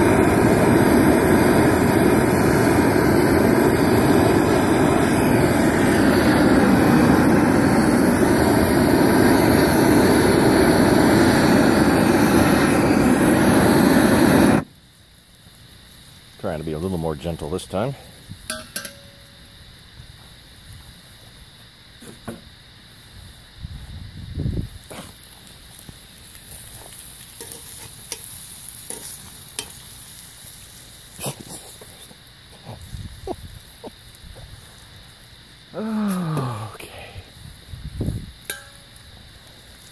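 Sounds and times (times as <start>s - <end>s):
wood fire crackling: 0.0s - 21.6s, 24.5s - 39.9s
propane torch roaring: 0.0s - 39.9s
steaks sizzling on a griddle: 0.0s - 39.9s.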